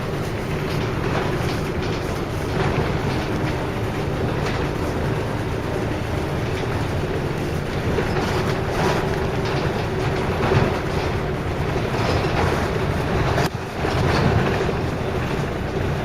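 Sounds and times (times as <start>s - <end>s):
bus diesel engine running: 0.0s - 16.0s
road noise: 0.0s - 16.0s.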